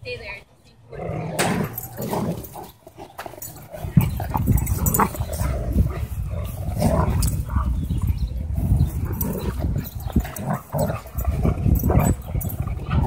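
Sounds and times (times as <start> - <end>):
dogs growling in play: 0.9 - 13.0.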